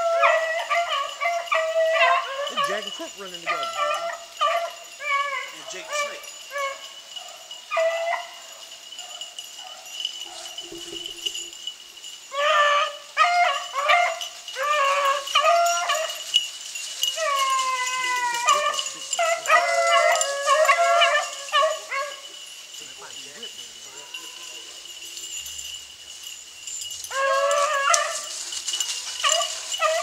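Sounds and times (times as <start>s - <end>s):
dog howling: 0.0s - 22.5s, 23.1s - 30.0s
dogs baying: 0.0s - 30.0s.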